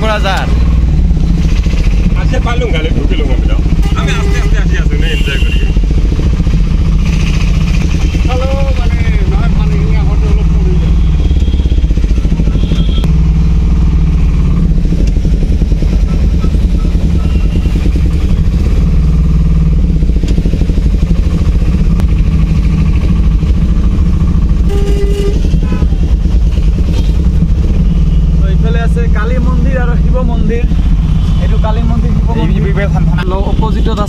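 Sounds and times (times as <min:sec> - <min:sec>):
car engine and tyre drone: 0:00.0 - 0:34.0.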